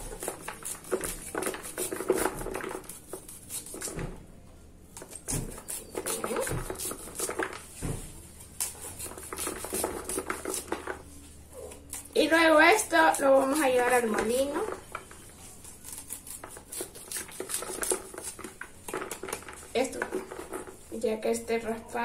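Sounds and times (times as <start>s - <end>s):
knife scraping corn kernels: 0.0s - 4.0s, 5.0s - 7.6s, 8.5s - 11.0s, 11.7s - 20.6s.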